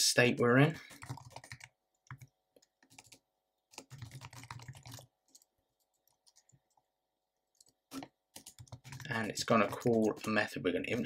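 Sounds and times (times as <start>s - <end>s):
typing on computer keyboard: 0.8s - 6.8s, 7.5s - 11.0s.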